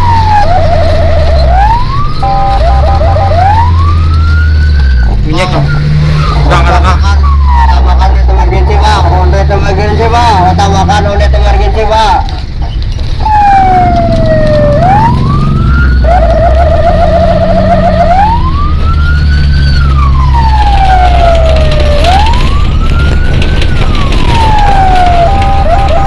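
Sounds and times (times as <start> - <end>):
engine rumble: 0.0 - 26.0
fire truck siren wailing: 0.0 - 26.0.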